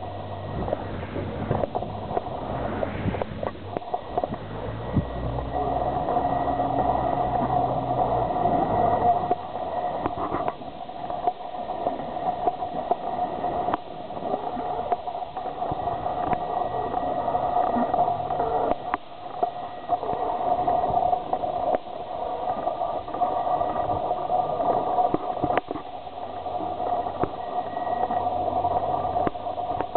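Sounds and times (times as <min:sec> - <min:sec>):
boat motor humming: 0:00.0 - 0:29.9.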